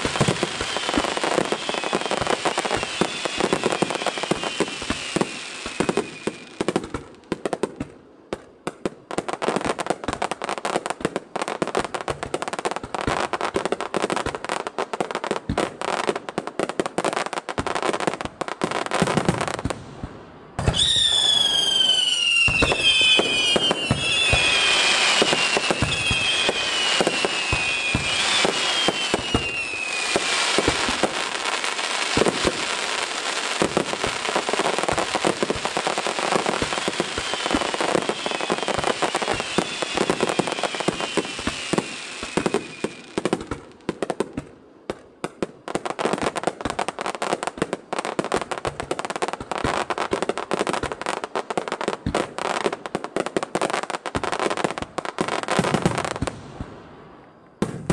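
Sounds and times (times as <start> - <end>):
whistling firework shells: 0.0 - 7.1, 17.7 - 51.2, 51.8 - 57.9.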